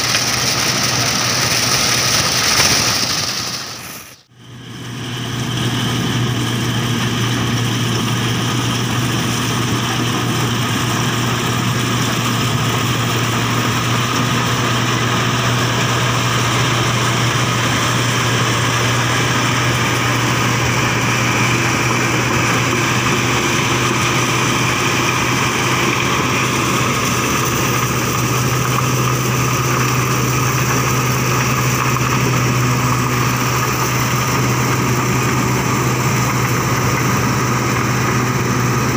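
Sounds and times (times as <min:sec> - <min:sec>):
combine harvester engine drone: 0:00.0 - 0:38.9
machinery noise: 0:00.0 - 0:38.9.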